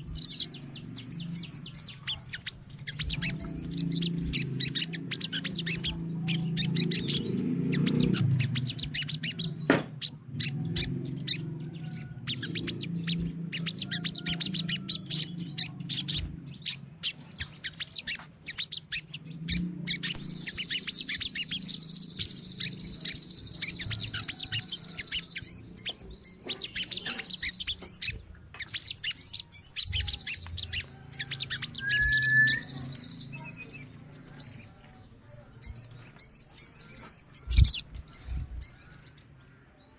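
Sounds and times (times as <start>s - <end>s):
high bird trill: 0.0s - 39.7s
sunbirds chirping: 0.0s - 39.9s.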